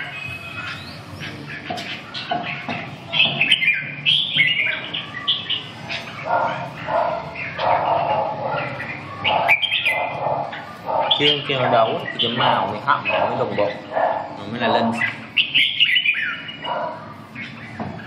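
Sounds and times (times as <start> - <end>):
birds chirping: 0.0 - 18.0
rough low bird calls: 0.0 - 18.0.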